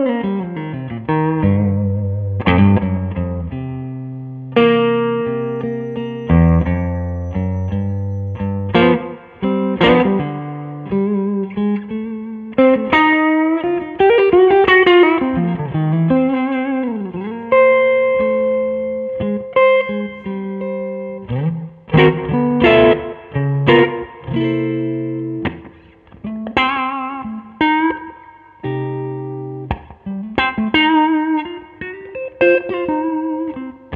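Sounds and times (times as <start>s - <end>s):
electric guitar blues lead: 0.0s - 33.9s.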